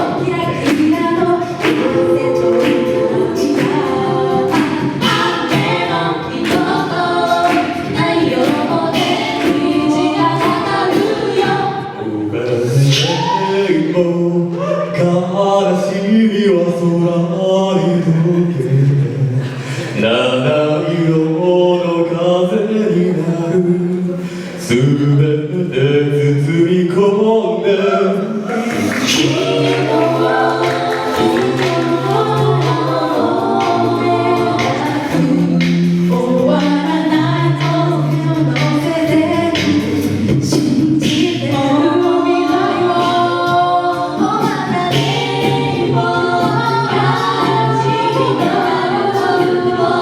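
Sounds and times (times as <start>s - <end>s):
a cappella group singing chords: 0.0s - 50.0s
vocal backing harmony: 0.0s - 50.0s.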